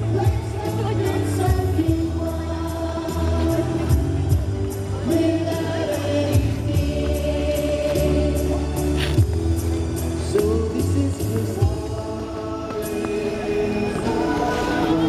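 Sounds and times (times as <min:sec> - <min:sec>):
voices singing together: 0:00.0 - 0:09.2, 0:10.2 - 0:15.0.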